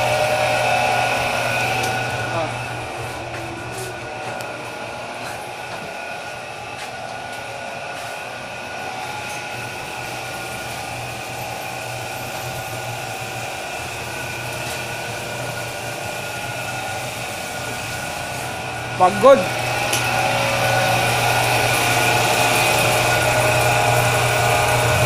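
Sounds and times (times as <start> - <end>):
bakery machinery whirring drone: 0.0 - 25.0.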